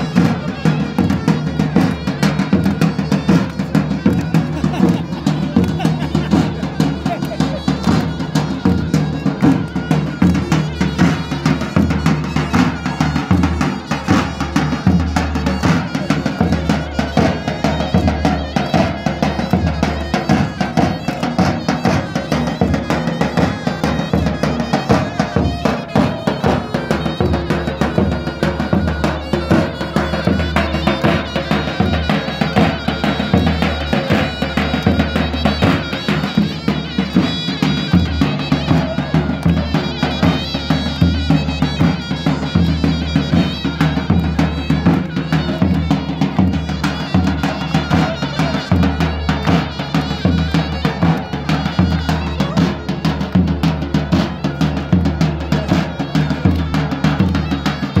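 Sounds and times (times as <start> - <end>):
large drum beating dance rhythm: 0.0 - 58.0
reedy wind instrument melody: 0.0 - 58.0.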